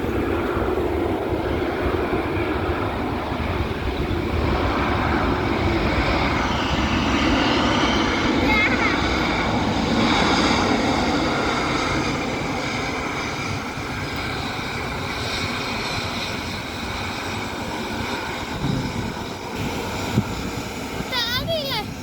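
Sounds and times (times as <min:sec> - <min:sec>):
jet engine and rushing air: 0:00.0 - 0:22.0.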